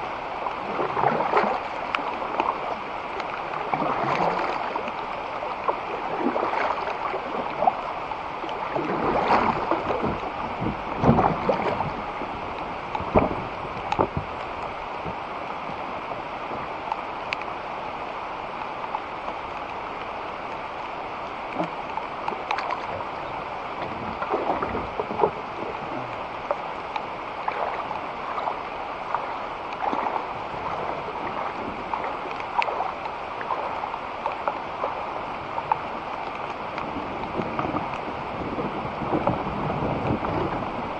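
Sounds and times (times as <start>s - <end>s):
moving water: 0.0s - 40.9s
paddle splashes: 0.0s - 40.9s.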